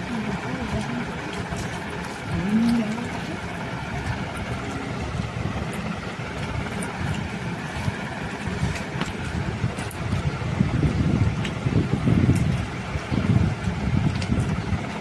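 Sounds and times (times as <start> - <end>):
low rumbling noise: 0.0 - 15.0.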